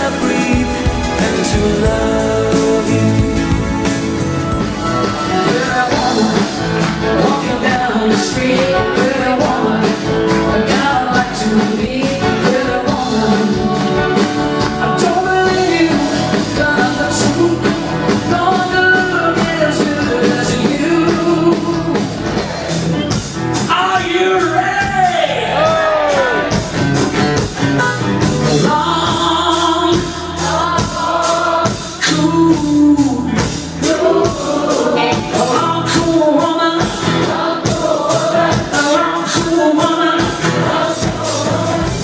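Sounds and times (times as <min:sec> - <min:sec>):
person singing: 0:00.0 - 0:22.2, 0:28.5 - 0:42.0
rock band music: 0:00.0 - 0:42.0
steady drum beat: 0:00.0 - 0:42.0.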